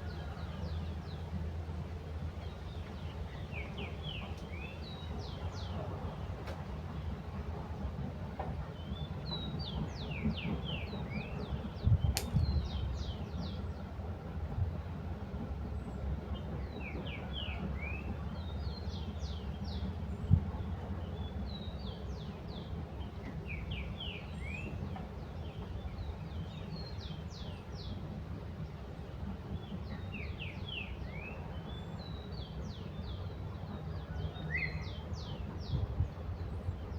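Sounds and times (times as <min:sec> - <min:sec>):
songbird singing: 0:02.4 - 0:07.1, 0:08.6 - 0:14.0, 0:15.6 - 0:36.9.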